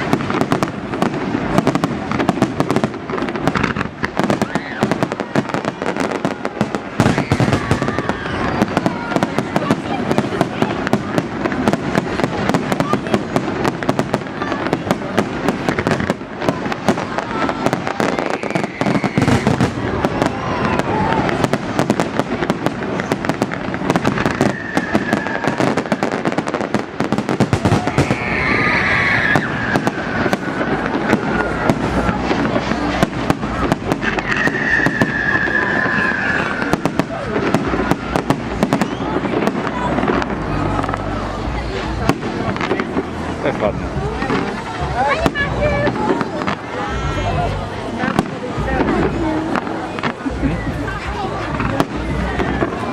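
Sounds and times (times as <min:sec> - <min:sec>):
whistling firework: 0:00.0 - 0:43.4
fireworks bangs and crackles: 0:00.0 - 0:52.9.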